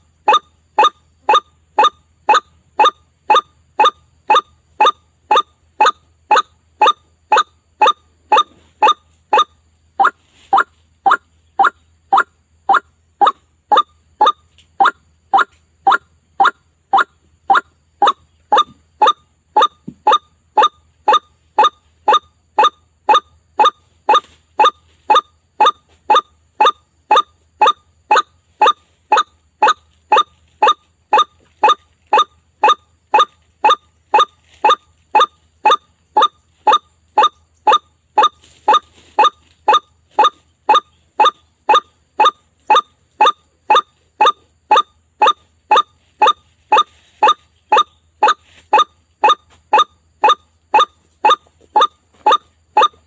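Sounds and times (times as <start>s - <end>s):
bird call recording: 0.0s - 53.0s.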